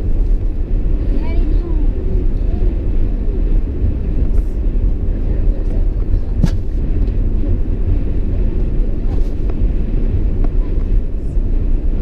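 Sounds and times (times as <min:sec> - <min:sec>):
truck rumbling from inside cab: 0:00.0 - 0:12.0.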